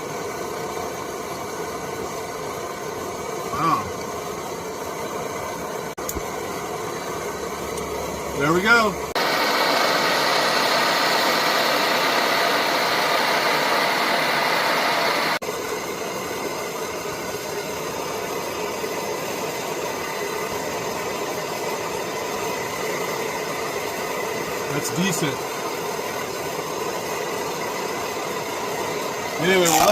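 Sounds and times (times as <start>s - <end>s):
camp stove burners hissing: 0.0s - 29.9s.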